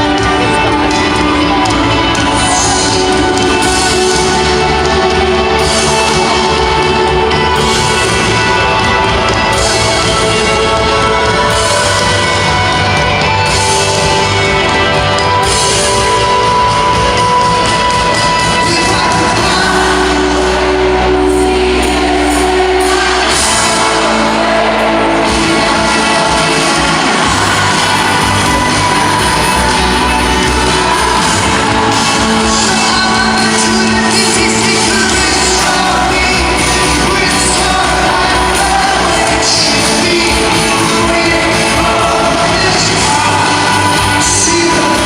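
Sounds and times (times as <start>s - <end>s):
person singing: 0.0s - 45.0s
rock band playing live: 0.0s - 45.0s.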